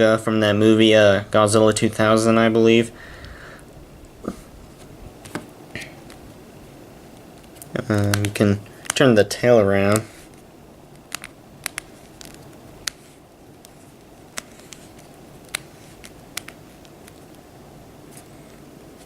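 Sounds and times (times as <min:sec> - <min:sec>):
low background hiss: 0:00.0 - 0:19.0.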